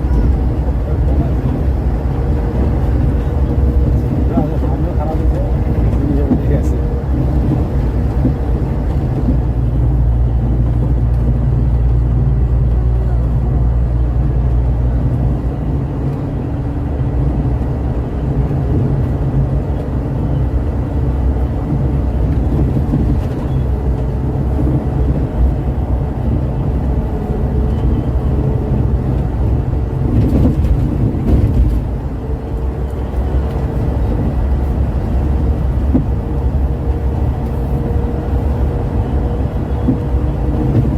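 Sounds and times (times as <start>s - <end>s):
coach engine drone: 0.0s - 40.9s
road and tyre noise: 0.0s - 40.9s.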